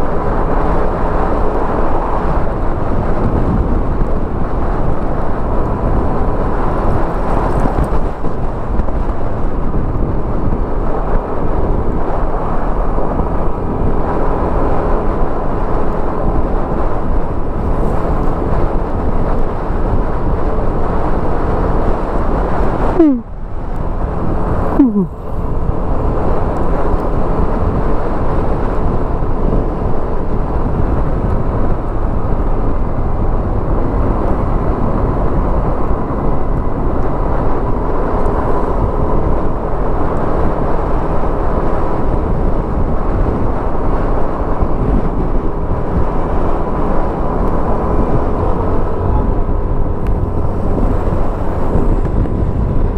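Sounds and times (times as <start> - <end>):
scooter engine and tyres: 0.0 - 52.9
wind rushing over microphone: 0.0 - 52.9.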